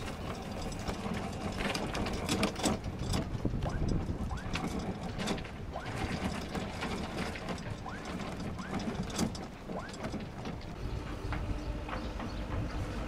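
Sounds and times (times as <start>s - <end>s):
anchor chain clattering: 0.0s - 10.8s
boat engine rumble: 0.0s - 13.0s
short squeaks: 2.0s - 13.0s.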